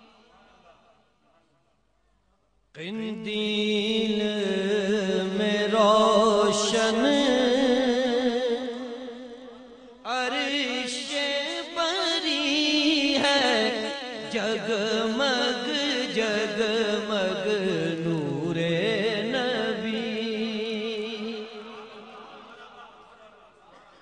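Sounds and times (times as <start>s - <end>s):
man singing ornamented melody: 2.7s - 22.5s.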